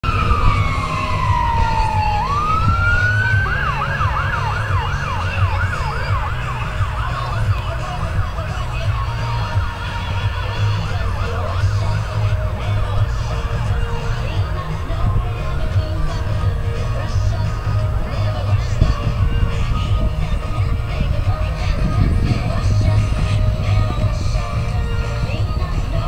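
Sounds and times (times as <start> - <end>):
emergency vehicle siren: 0.0 - 26.0
steady low rumble: 0.0 - 26.0.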